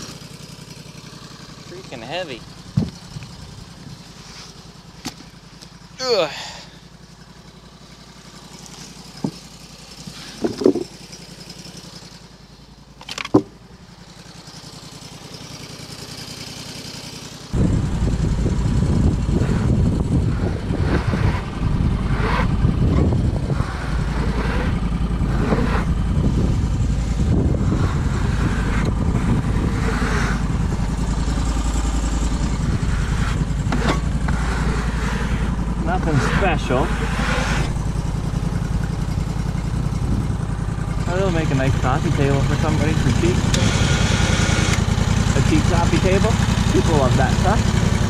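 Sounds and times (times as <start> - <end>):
sawmill engine running: 0.0 - 48.0.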